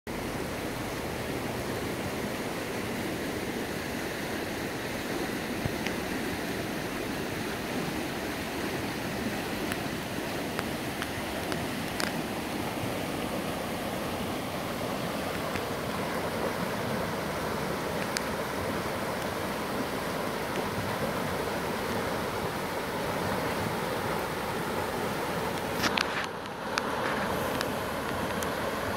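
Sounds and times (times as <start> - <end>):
floodwater rushing: 0.1 - 28.9.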